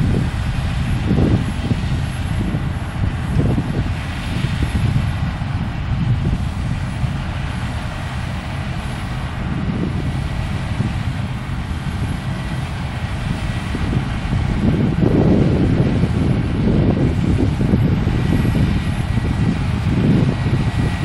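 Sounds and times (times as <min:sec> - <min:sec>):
combine harvester engine drone: 0:00.0 - 0:21.0
faint steady whine: 0:00.0 - 0:21.0
threshing and header noise: 0:00.0 - 0:21.0.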